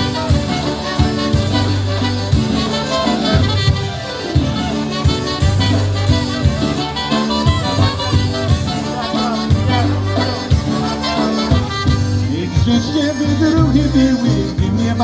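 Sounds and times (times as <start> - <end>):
polka band playing: 0.0 - 15.0.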